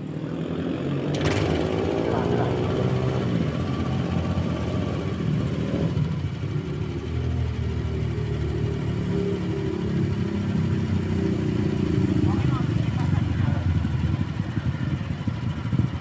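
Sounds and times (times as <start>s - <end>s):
motor scooter engine idling: 0.1s - 16.0s.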